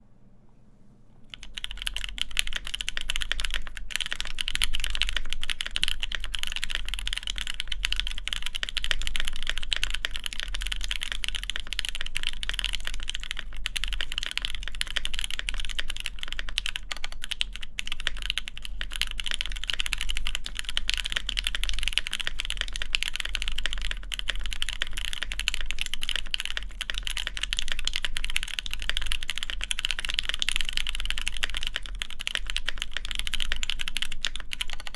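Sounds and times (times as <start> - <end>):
fast typing on mechanical keyboard: 1.3 - 34.9.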